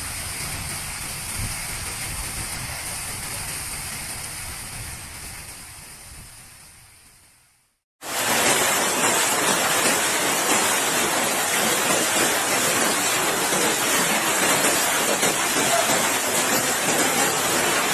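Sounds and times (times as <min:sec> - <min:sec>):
heavy rain downpour: 0:00.0 - 0:06.8, 0:08.0 - 0:17.9.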